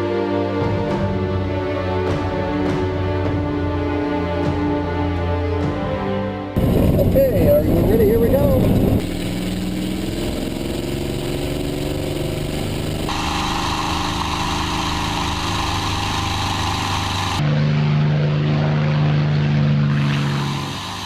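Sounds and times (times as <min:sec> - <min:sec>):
aircraft engines droning: 0:00.0 - 0:21.0.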